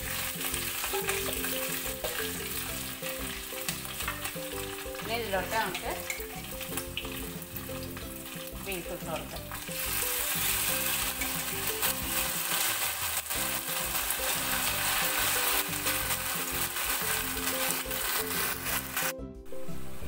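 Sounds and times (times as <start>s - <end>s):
meat sizzling in oil: 0.0s - 19.2s.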